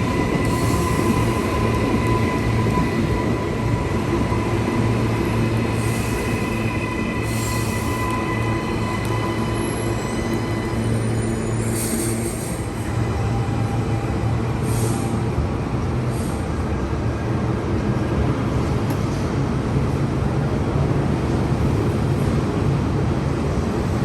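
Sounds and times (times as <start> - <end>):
train rumbling by: 0.0 - 24.0.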